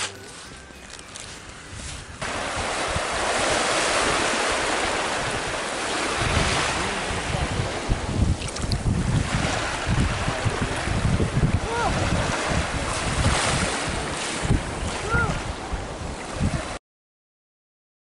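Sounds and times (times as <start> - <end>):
small waves washing onto shore: 0.0 - 16.8
wind buffeting microphone: 0.0 - 16.8.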